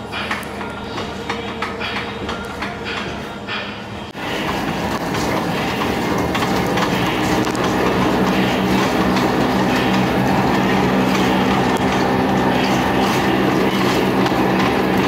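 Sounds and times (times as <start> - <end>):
pedals clattering: 0.0 - 15.0
stair climber machine humming: 0.0 - 15.0.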